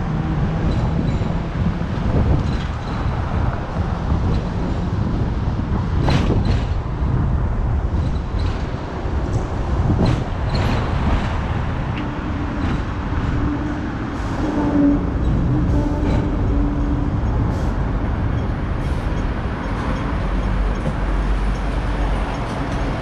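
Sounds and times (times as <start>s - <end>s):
tram rumbling: 0.0s - 23.0s
wheels clicking and squealing on rails: 0.0s - 23.0s.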